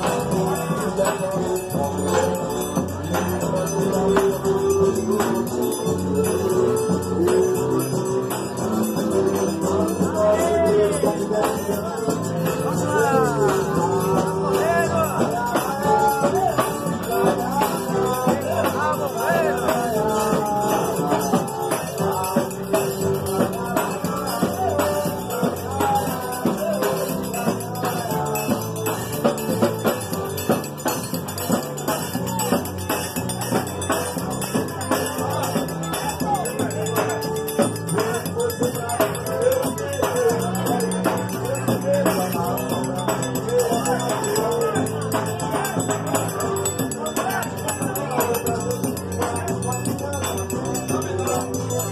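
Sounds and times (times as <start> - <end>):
drum and cymbal beat: 0.0 - 51.9
guitars: 0.0 - 51.9
person singing: 0.0 - 51.9.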